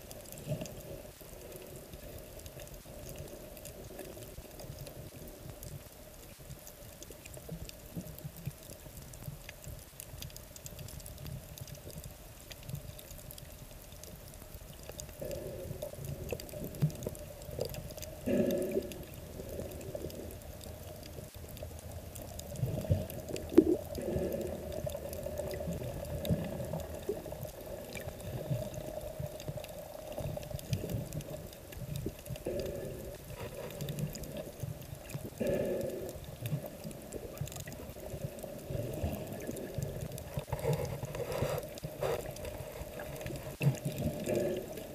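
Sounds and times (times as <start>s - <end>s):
underwater sloshing and bubbling: 0.0s - 44.9s.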